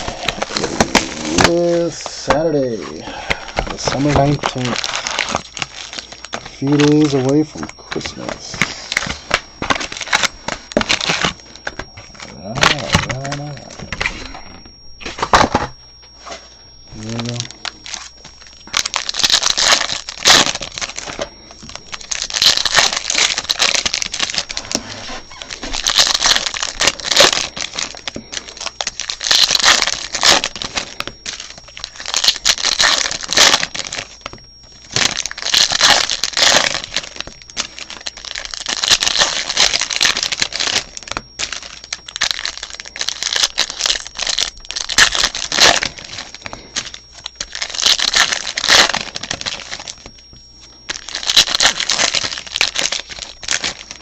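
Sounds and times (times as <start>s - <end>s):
plastic wrapping crinkling and tearing: 0.0s - 54.0s.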